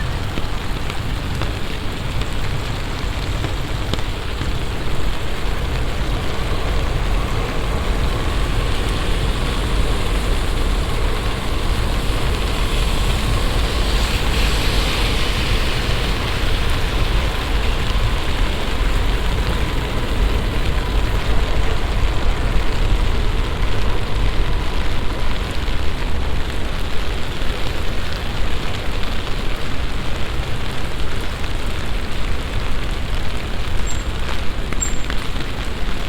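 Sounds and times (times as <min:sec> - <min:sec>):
constant low rumble: 0:00.0 - 0:36.0
heavy rain hissing: 0:00.0 - 0:36.0.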